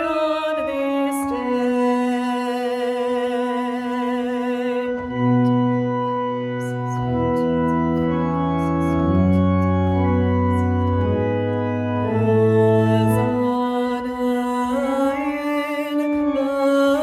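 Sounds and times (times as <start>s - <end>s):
organ playing chords: 0.0s - 17.0s.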